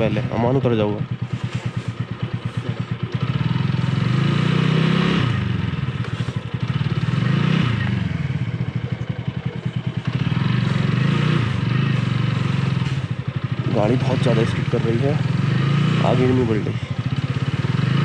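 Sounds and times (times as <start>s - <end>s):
motorcycle engine revving: 0.0s - 18.0s
wheel spinning on snow: 0.0s - 18.0s.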